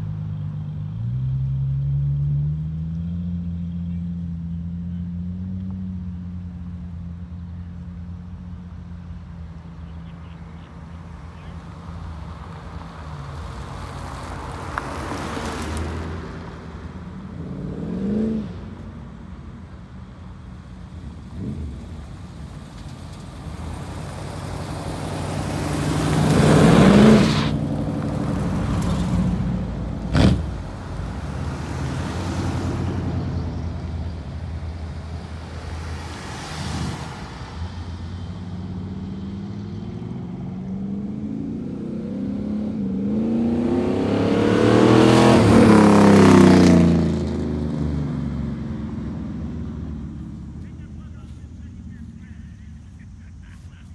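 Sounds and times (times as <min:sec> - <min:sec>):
car engines revving and passing: 0:00.0 - 0:53.9.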